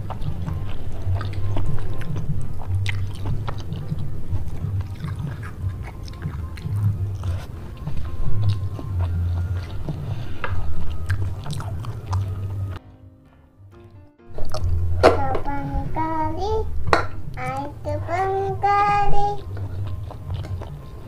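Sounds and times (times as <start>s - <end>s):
chewing and biting food: 0.0s - 12.8s, 14.4s - 15.3s, 17.2s - 21.0s
soft background music: 0.0s - 21.0s.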